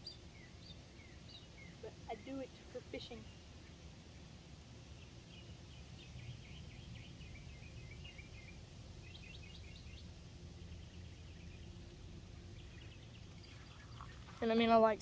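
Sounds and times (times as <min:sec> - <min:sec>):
low steady rumble: 0:00.0 - 0:15.0
songbird singing: 0:00.0 - 0:15.0.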